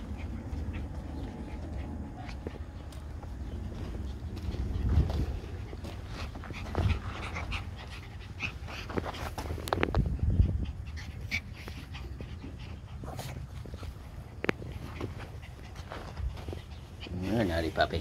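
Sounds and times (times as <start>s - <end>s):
puppies panting and scuffling: 0.0s - 18.0s.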